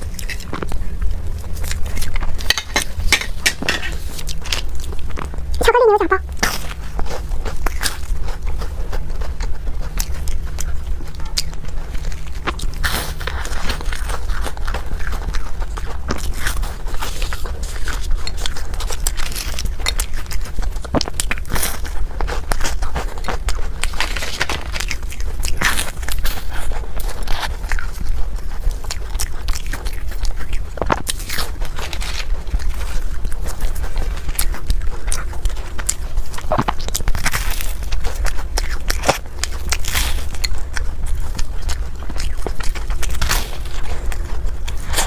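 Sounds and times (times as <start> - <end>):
person chewing food: 0.0 - 45.0
steady low hum: 0.0 - 45.0.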